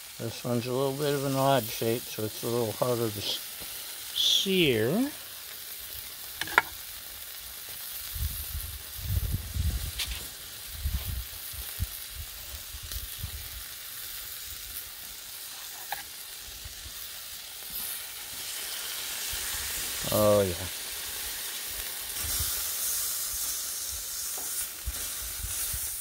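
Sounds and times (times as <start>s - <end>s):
steaks sizzling on a griddle: 0.0s - 26.0s.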